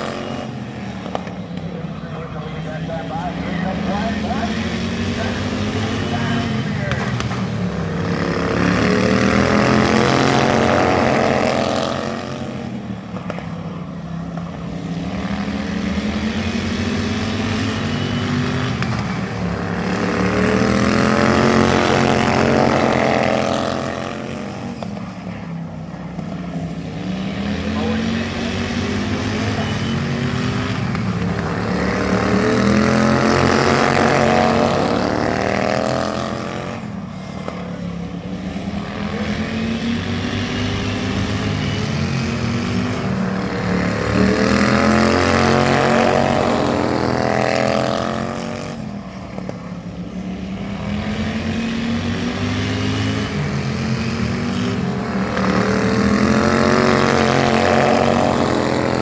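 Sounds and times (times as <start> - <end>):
racing lawn mower engines passing: 0.0 - 59.0.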